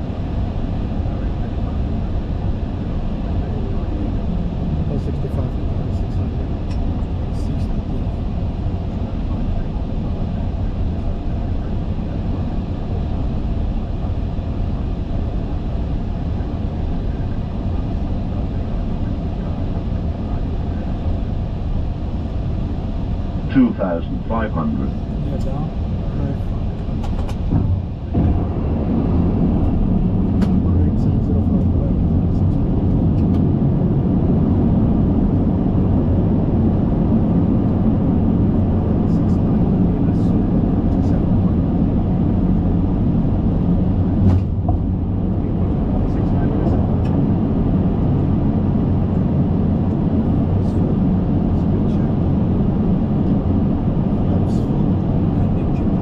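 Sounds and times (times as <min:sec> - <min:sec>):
airliner engine and airflow rumble: 0:00.0 - 0:56.0.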